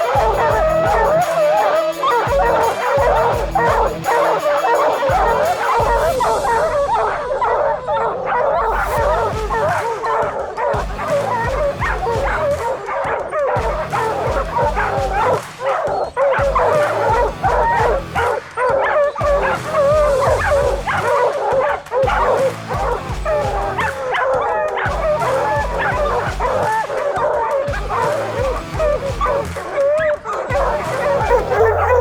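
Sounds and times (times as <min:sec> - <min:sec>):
hounds baying and yelping: 0:00.0 - 0:32.0.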